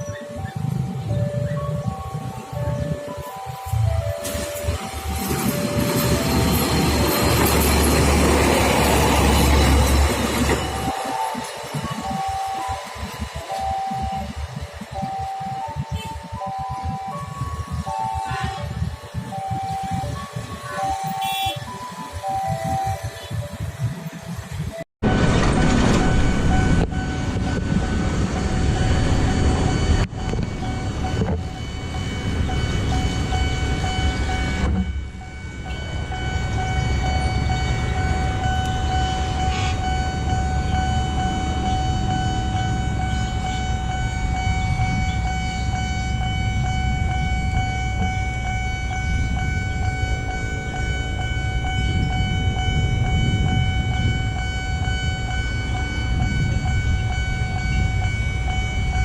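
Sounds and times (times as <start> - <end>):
sustained high-pitched tone: 0.0 - 24.8, 26.0 - 59.0
wheels rumbling on rail: 0.0 - 59.0.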